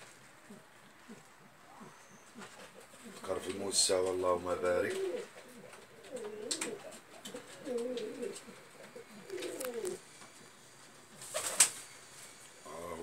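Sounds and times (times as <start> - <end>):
pigeons cooing: 0.4 - 12.0.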